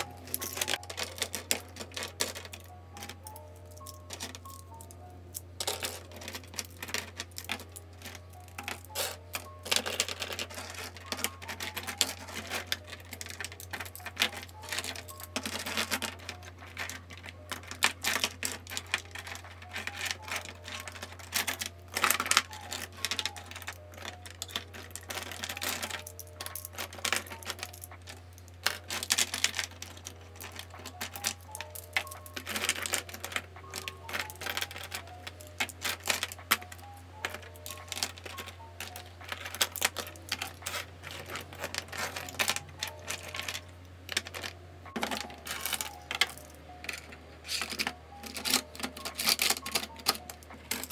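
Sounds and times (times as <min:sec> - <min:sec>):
plastic pens clicking and knocking: 0:00.0 - 0:50.9
soft background music: 0:00.0 - 0:50.9.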